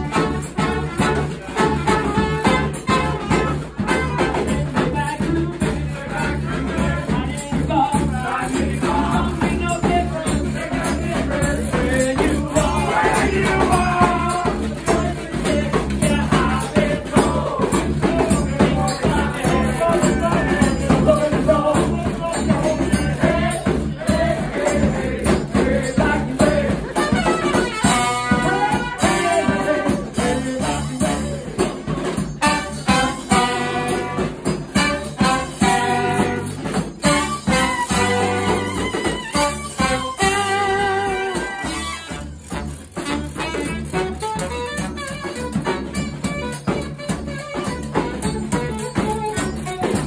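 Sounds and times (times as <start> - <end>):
brass band playing: 0.0 - 50.0
washboard scraping rhythm: 0.0 - 50.0.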